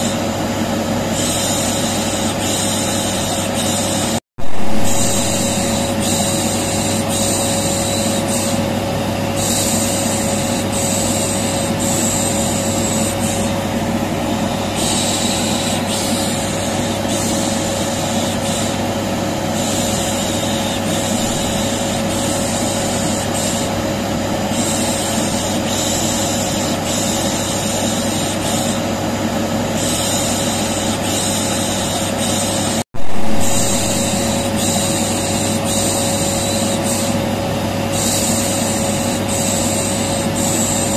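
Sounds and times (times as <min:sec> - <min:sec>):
vacuum cleaner motor humming: 0:00.0 - 0:40.9.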